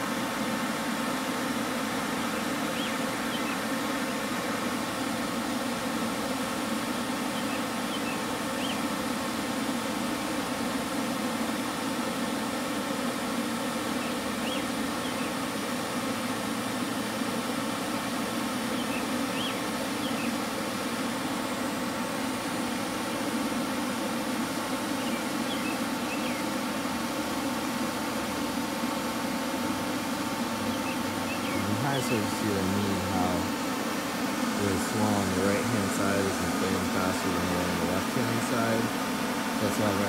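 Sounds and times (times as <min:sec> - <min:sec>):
electric blower motor humming: 0:00.0 - 0:40.0.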